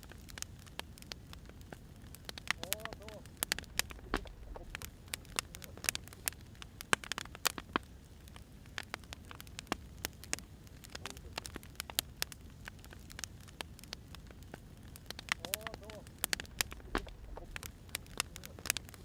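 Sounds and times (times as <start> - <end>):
firewood crackling: 0.0 - 19.0.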